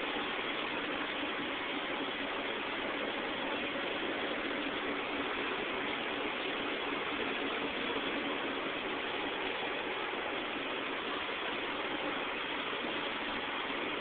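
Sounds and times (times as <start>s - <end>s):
steady street traffic: 0.0s - 14.0s.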